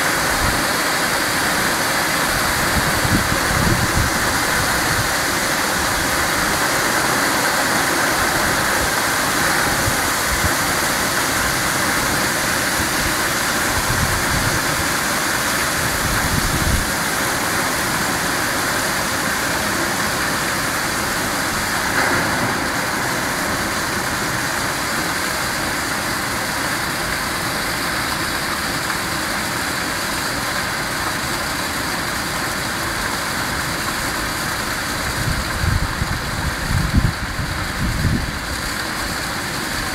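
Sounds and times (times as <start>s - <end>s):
hail and rain falling: 0.0s - 39.9s.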